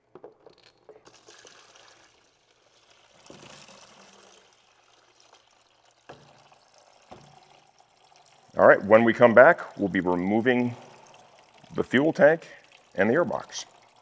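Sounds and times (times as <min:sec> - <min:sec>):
coolant trickling into a plastic pan: 0:01.0 - 0:14.0.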